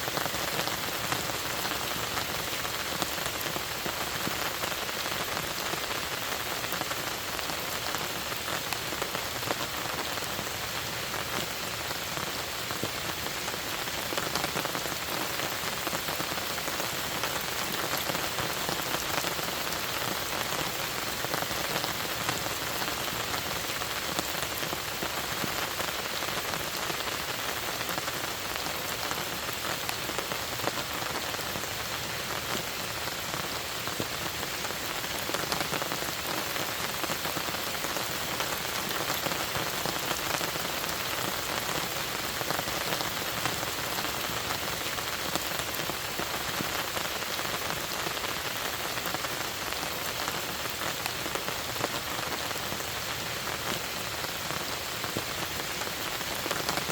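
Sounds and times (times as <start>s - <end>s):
rain falling on lake: 0.0s - 56.9s.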